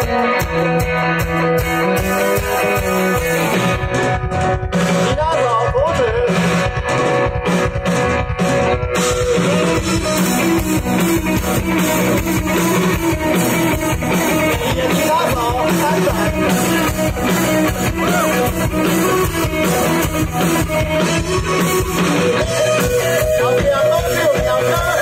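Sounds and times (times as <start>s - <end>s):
drum kit beat: 0.0s - 25.0s
rock band playing: 0.0s - 25.0s.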